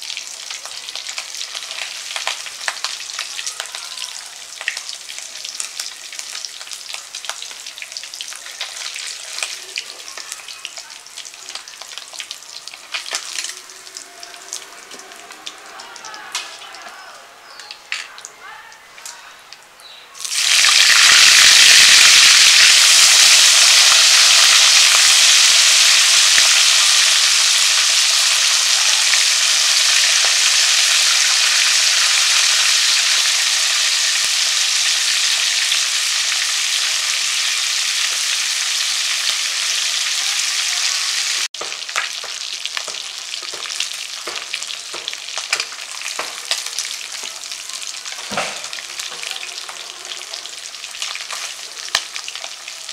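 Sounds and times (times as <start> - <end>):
fish sizzling in hot oil: 0.0 - 15.1, 20.2 - 52.9.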